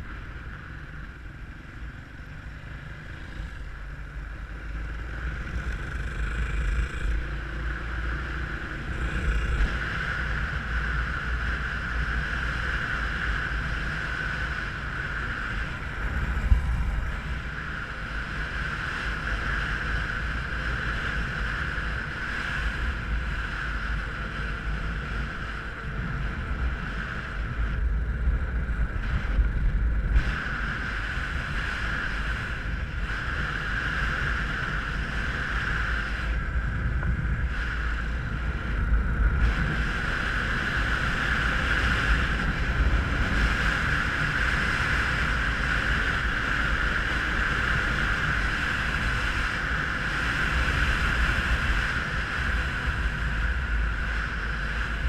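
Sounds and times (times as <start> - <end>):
dirt bike engine running: 0.0 - 55.0
wind buffeting microphone: 3.4 - 55.0.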